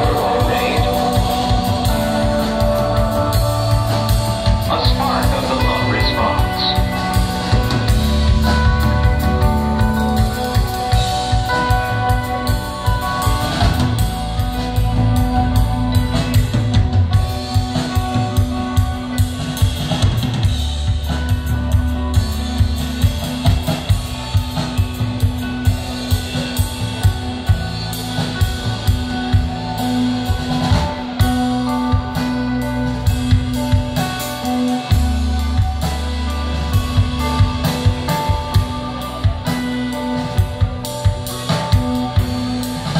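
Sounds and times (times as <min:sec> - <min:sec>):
drum kit beating: 0:00.0 - 0:42.9
ringing electric guitar: 0:00.0 - 0:42.9.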